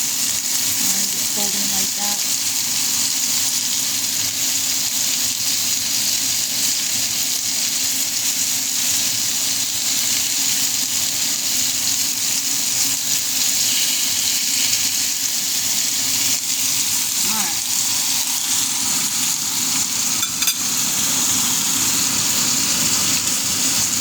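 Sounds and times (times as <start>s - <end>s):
bacon sizzling in a frying pan: 0.0s - 24.0s.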